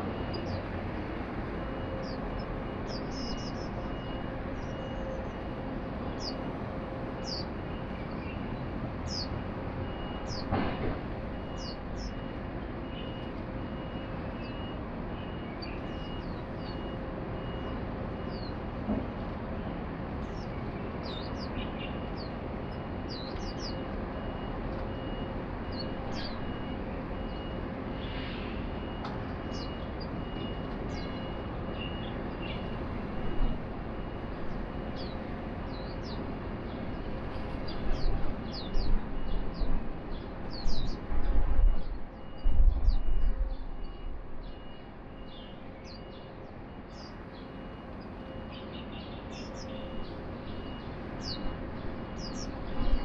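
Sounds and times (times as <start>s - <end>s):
city background hum: 0.0s - 53.0s.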